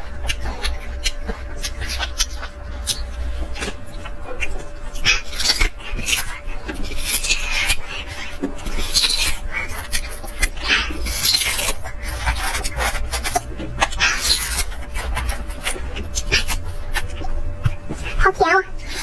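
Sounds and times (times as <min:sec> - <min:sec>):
sugarcane tearing and crunching: 0:00.0 - 0:17.9.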